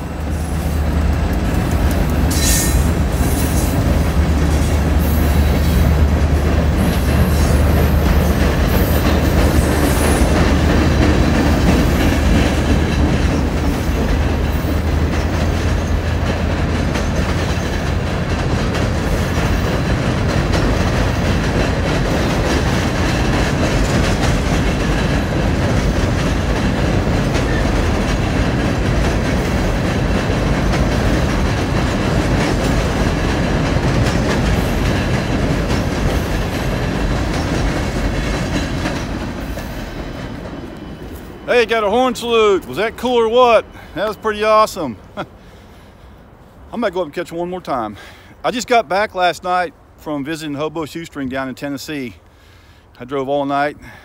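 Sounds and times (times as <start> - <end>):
train wheels clattering on rails: 0.0 - 45.8
freight train rumbling over bridge: 0.0 - 54.0.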